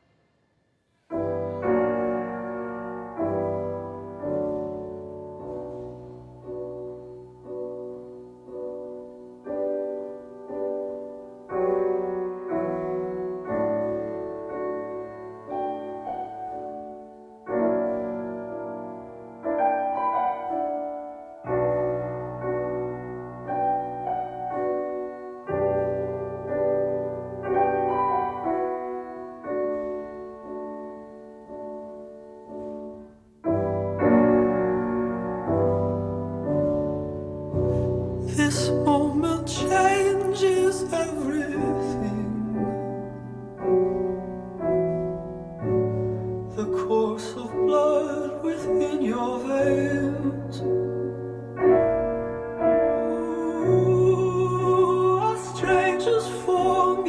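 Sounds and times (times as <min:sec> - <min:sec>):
slow piano chords: 0:00.9 - 0:57.0.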